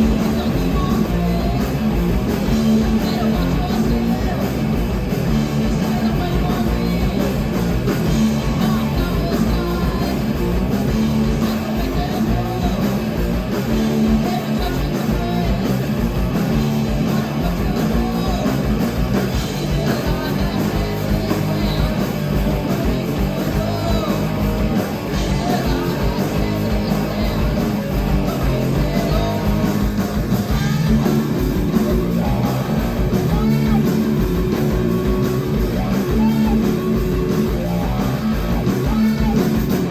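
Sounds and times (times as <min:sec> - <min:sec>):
live heavy rock band: 0:00.0 - 0:39.9.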